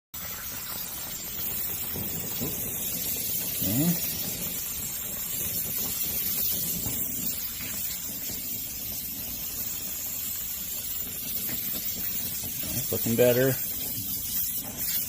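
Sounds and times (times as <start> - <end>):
torch flame hissing: 0.2 - 15.0.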